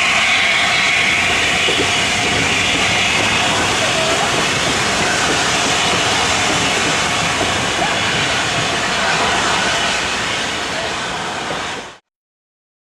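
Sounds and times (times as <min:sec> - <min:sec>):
train coaches rolling past: 0:00.0 - 0:12.0.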